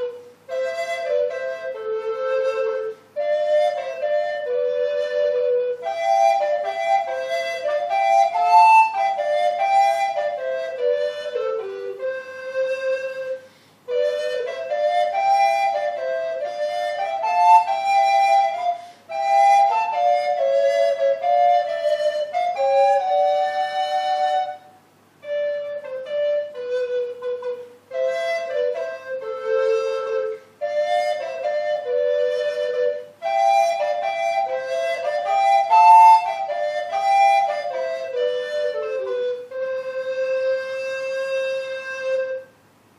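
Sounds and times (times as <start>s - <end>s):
recorders playing a duet: 0.0s - 42.9s.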